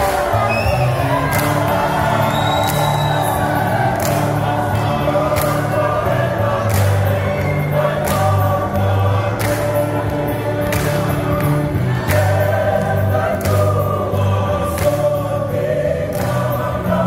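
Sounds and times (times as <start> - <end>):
women's choir singing: 0.0 - 17.0.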